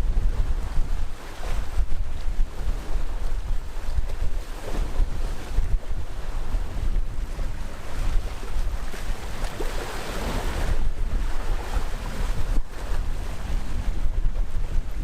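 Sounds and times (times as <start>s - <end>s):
sea waves washing on shore: 0.0s - 15.0s
wind rumbling on microphone: 0.0s - 15.0s.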